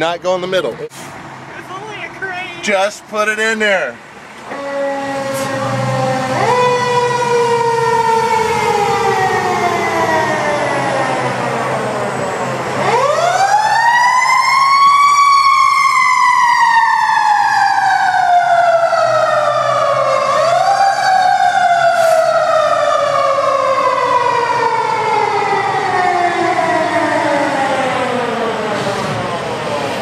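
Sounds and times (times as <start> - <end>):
mechanical siren wailing: 4.4 - 29.9.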